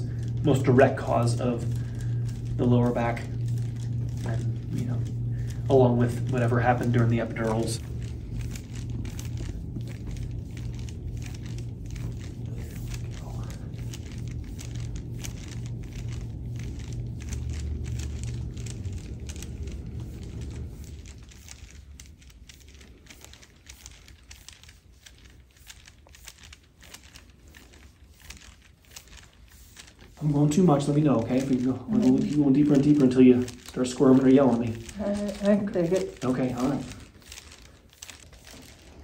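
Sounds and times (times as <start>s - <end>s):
hands crinkling and rubbing: 0.0s - 39.0s
low steady hum: 0.0s - 39.0s.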